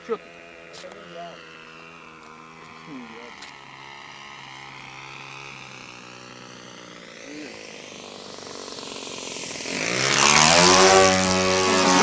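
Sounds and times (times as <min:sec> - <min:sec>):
model plane engine droning: 0:00.0 - 0:12.0.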